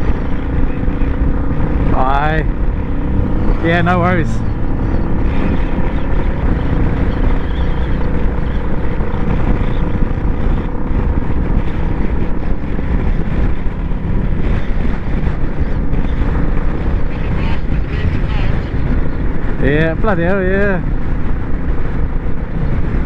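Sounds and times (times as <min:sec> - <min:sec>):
motorcycle engine cruising: 0:00.0 - 0:23.0
wind rushing over microphone: 0:00.0 - 0:23.0.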